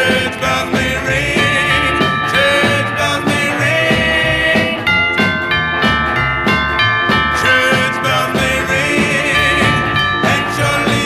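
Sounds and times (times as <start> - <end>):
doo-wop vocal group song: 0.0 - 5.4, 7.1 - 11.0.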